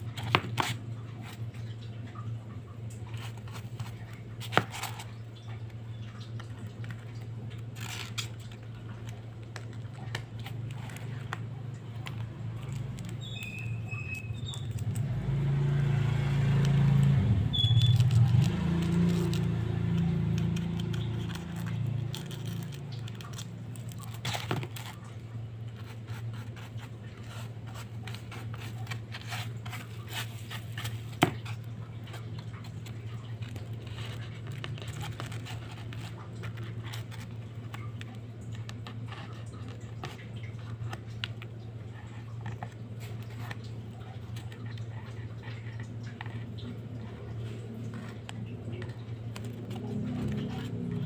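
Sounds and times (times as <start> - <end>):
paper scratching and crinkling: 0.0 - 1.7, 3.0 - 5.2, 6.1 - 51.0.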